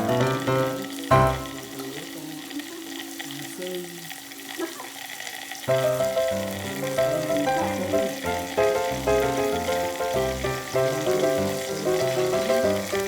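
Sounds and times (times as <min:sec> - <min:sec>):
background music: 0:00.0 - 0:04.5, 0:05.7 - 0:13.0
meat sizzling on a grill: 0:00.0 - 0:13.0.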